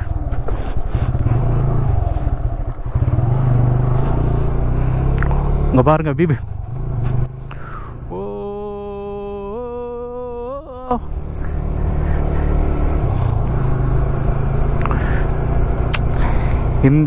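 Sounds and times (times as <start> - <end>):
motorcycle engine running: 0.0 - 10.2, 10.9 - 17.0.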